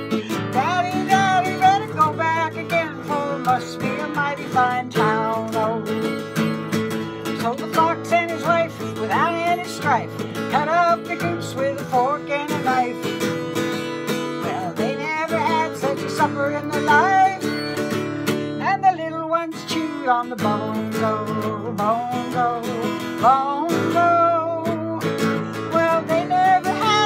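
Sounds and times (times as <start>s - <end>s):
acoustic guitar strumming: 0.0s - 27.0s
woman singing: 0.0s - 27.0s.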